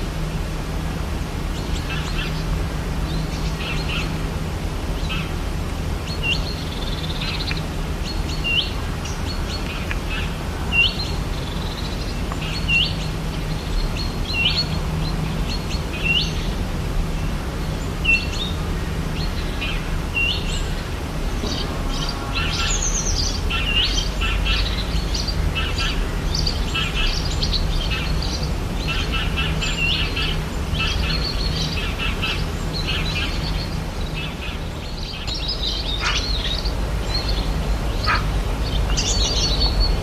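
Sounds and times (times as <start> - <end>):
birds chirping: 1.5 - 40.0.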